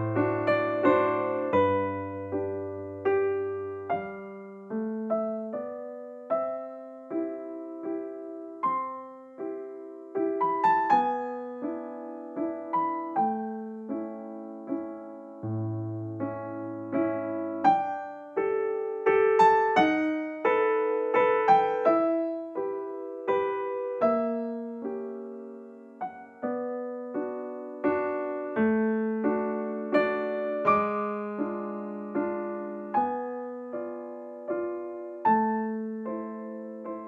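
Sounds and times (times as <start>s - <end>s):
soft piano music: 0.0s - 37.0s.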